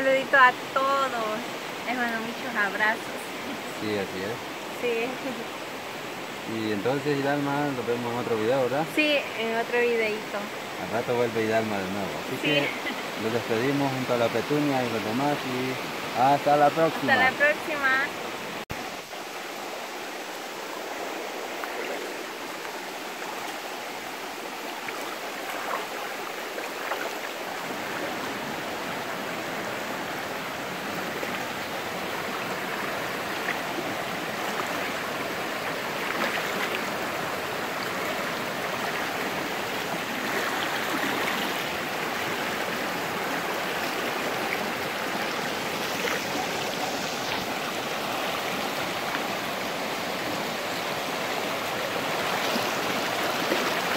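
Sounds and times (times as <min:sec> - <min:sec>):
river flowing over rocks: 0:00.0 - 0:53.9.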